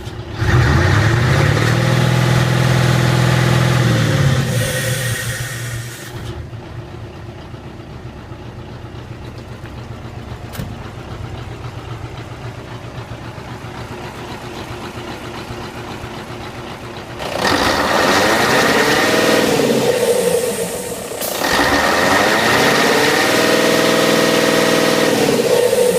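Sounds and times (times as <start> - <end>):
diesel truck engine idling and revving: 0.0 - 25.9.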